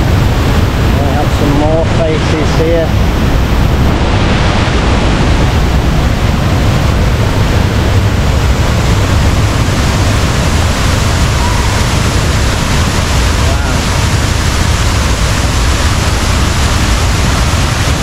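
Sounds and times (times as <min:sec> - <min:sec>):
waterfall rushing: 0:00.0 - 0:18.0
white water churning: 0:00.0 - 0:18.0.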